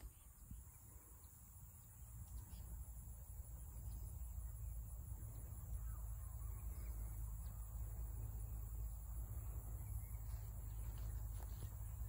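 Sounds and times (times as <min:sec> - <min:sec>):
faint bird chirps: 0:00.0 - 0:12.0
high insect hum: 0:00.0 - 0:12.0.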